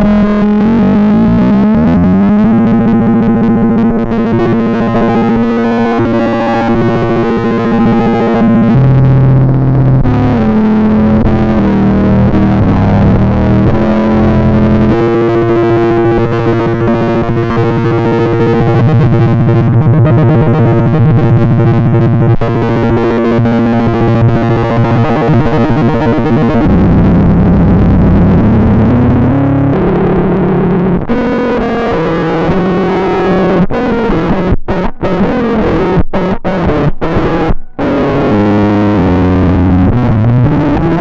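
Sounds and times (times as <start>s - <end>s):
distorted electric guitar: 0.0s - 41.0s.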